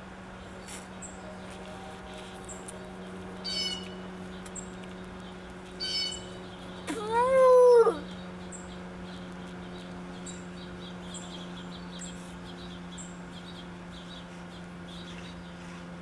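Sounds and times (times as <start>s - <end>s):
small birds chirping: 2.2s - 16.0s.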